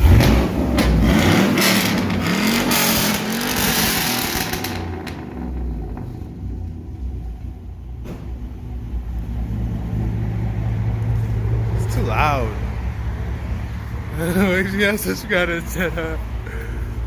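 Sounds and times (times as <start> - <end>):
loud car engine revving and idling: 0.0 - 17.0.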